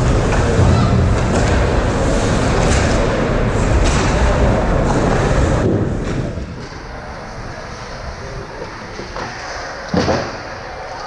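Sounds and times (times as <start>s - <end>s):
low rushing noise: 0.0s - 11.0s.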